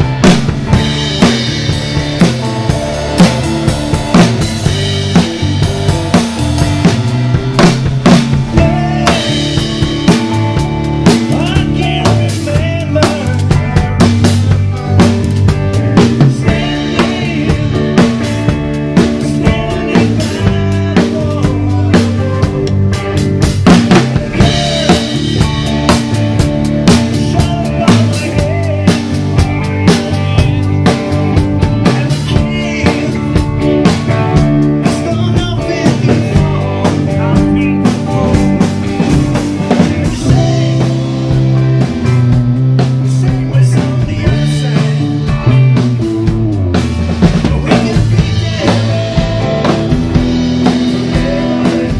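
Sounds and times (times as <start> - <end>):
drum kit hits: 0.0 - 51.9
electric guitars: 0.0 - 51.9
live band playing: 0.0 - 51.9
man singing: 7.6 - 51.9.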